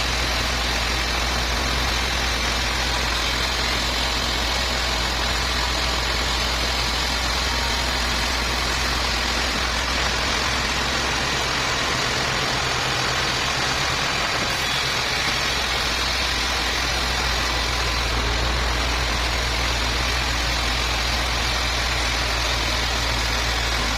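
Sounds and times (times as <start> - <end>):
sawmill machinery drone and whir: 0.0 - 23.9.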